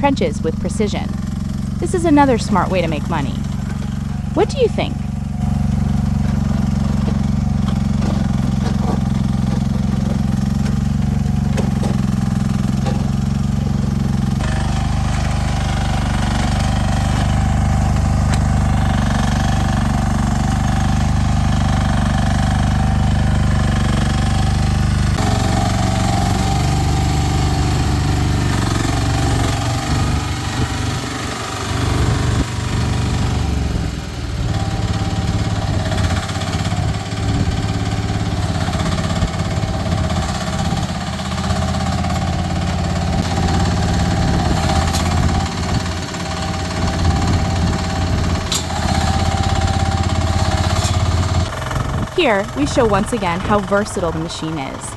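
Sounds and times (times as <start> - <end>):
small excavator engine running: 0.0 - 54.9.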